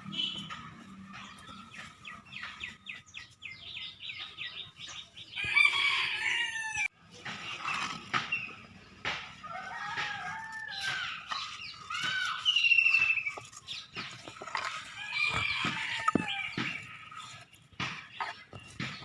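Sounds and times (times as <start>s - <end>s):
chickens and birds calling: 0.0s - 19.0s.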